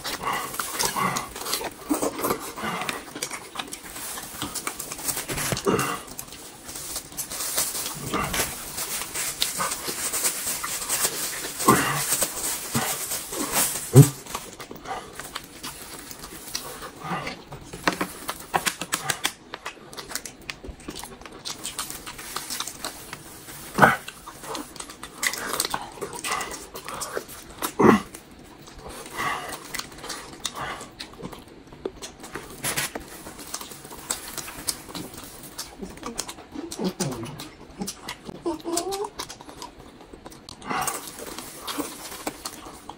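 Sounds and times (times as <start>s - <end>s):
wet chewing: 0.0s - 42.9s.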